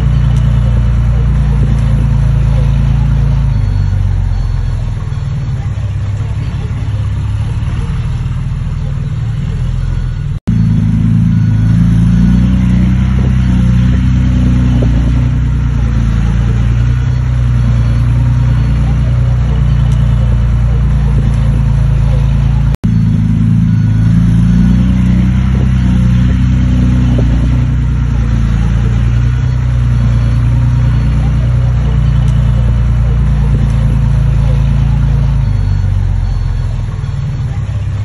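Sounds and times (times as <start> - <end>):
diesel engines of heavy machinery: 0.0 - 38.0.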